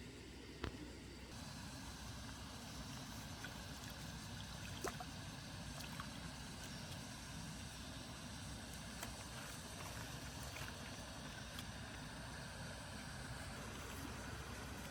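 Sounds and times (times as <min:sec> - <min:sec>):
water lapping around boat: 0:01.3 - 0:14.9.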